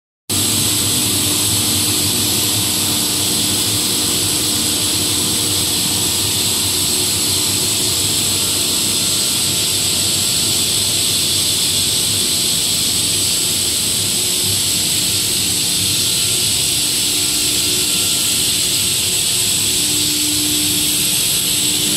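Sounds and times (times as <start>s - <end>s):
low machine hum: 0.3s - 21.9s
rushing hiss: 0.3s - 21.9s.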